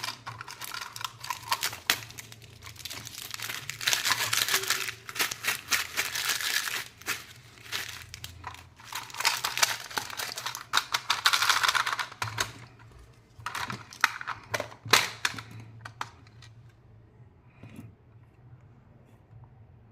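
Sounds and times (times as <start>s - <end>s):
candy wrapper crinkling: 0.0s - 16.4s.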